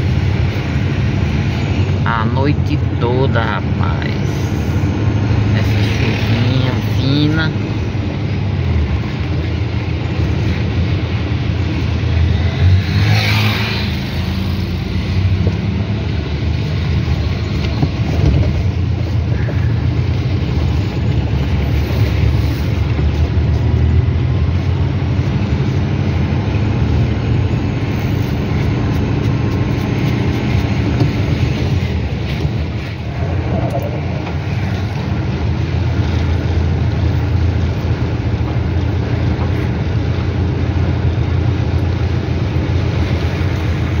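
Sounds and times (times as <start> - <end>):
car engine rumble: 0.0 - 44.0
tyres on wet road: 0.0 - 44.0.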